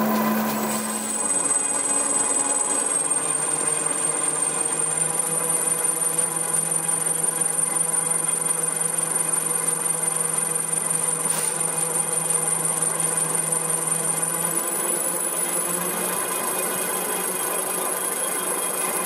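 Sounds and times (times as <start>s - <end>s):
high-pitched whine: 0.0s - 19.0s
machine hum and rattle: 0.0s - 19.0s.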